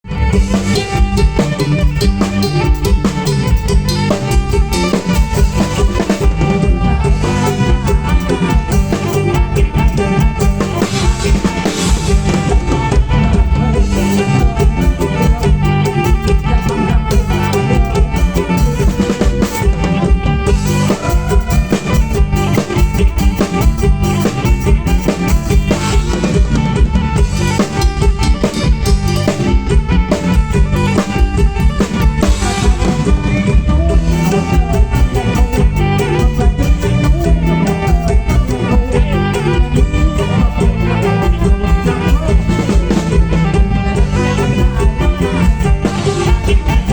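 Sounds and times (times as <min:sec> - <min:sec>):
bowed fiddle melody: 0:00.0 - 0:46.9
drum kit beat: 0:00.0 - 0:46.9.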